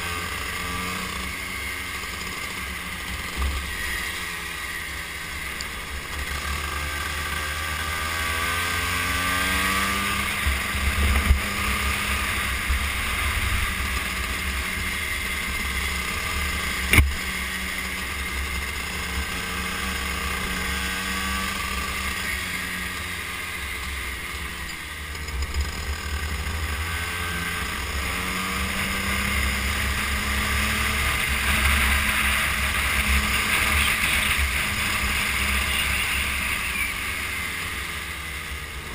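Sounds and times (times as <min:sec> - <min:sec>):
go-kart engine: 0:00.0 - 0:38.9.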